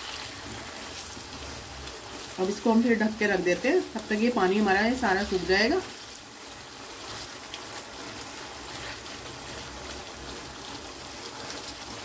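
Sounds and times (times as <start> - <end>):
food sizzling and bubbling in pan: 0.0 - 12.0.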